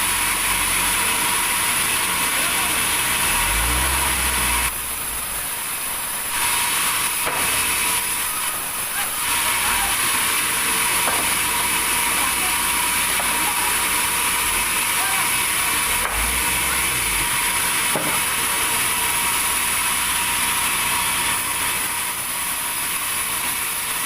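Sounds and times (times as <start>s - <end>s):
sawmill machinery running: 0.0s - 24.0s.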